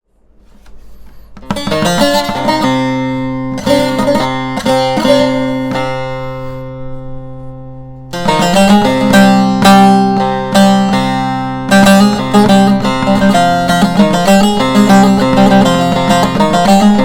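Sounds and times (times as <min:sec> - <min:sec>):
acoustic guitar played solo: 0:01.4 - 0:17.0.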